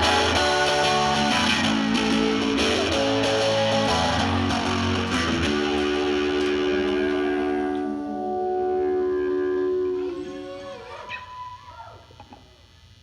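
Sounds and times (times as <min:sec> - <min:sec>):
distorted electric guitar music: 0:00.0 - 0:13.0.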